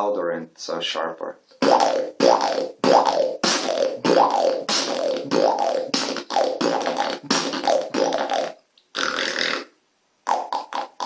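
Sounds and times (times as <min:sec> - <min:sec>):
beatbox lip roll: 0:01.5 - 0:11.0.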